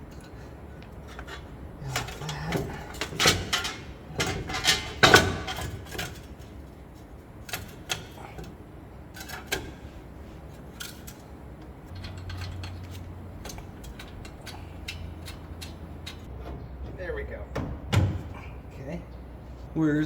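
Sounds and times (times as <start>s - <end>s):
metal clicks and knocks: 0.0s - 18.4s.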